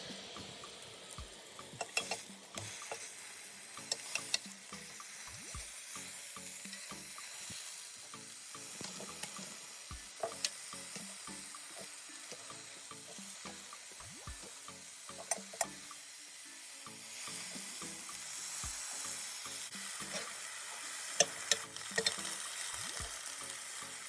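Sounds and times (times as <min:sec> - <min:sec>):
steak sizzling on a grill: 0:00.0 - 0:24.0.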